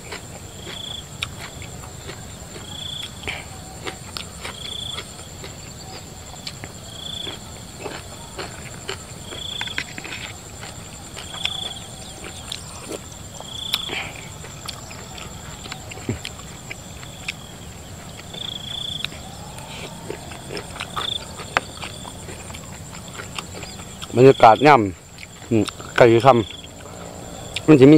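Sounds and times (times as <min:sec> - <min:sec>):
wet chewing and mouth clicks: 0:00.0 - 0:27.7
crickets droning: 0:00.0 - 0:27.9
short high insect call: 0:00.2 - 0:27.9.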